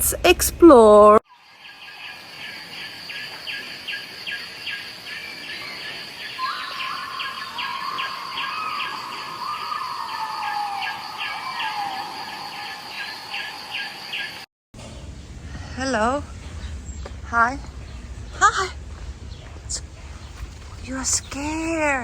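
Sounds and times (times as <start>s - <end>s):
birds chirping: 0.0s - 22.0s
insects chirping: 0.2s - 14.5s, 16.7s - 22.0s.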